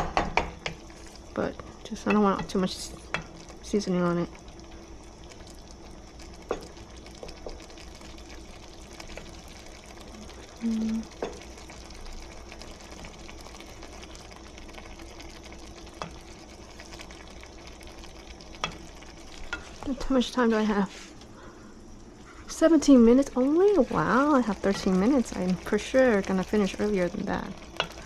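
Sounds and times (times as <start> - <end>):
eggs sizzling in a pan: 0.0 - 28.0.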